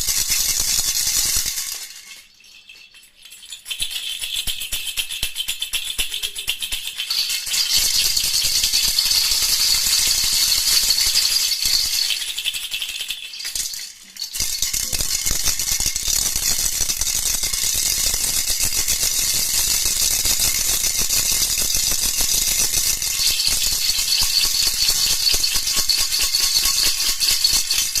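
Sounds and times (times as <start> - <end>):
baby rattle shaken: 0.0 - 28.0.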